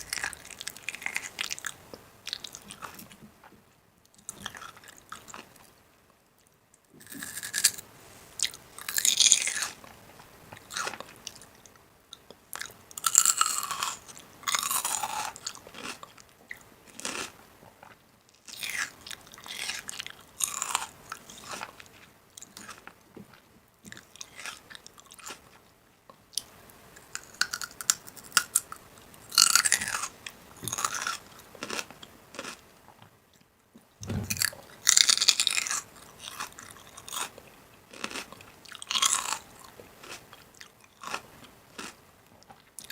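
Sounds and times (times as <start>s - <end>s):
person chewing crunchy food: 0.0s - 5.8s, 7.0s - 25.7s, 26.3s - 33.4s, 34.1s - 42.9s.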